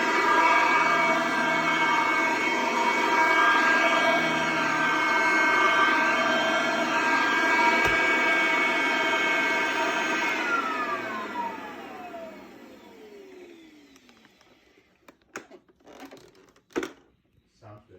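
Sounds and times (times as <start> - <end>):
vacuum cleaner motor whine: 0.0 - 15.2.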